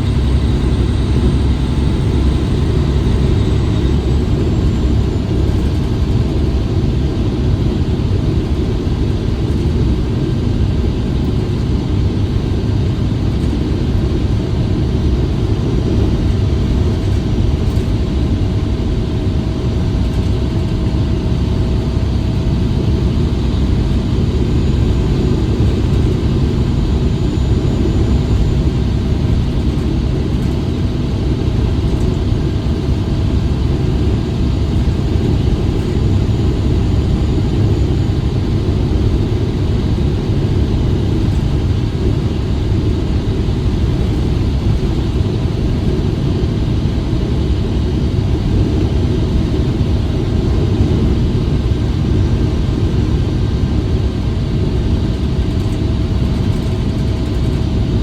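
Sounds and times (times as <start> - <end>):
blizzard wind blowing hard: 0.0 - 58.0.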